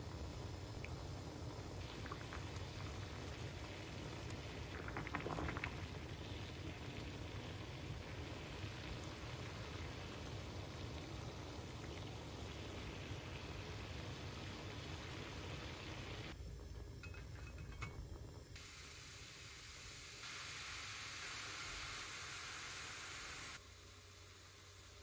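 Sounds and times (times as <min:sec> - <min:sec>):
mushrooms sizzling in frying pan: 0:00.0 - 0:17.8, 0:18.5 - 0:25.0
water boiling in a pot: 0:00.0 - 0:25.0.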